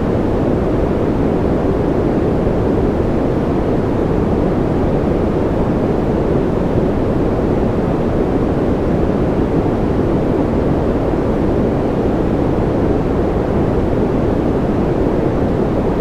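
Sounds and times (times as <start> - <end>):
deep rumbling white noise: 0.0 - 16.0.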